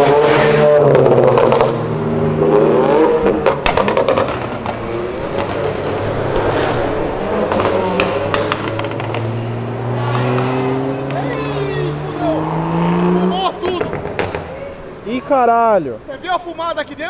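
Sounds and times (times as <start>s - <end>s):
cars accelerating past: 0.0s - 15.1s.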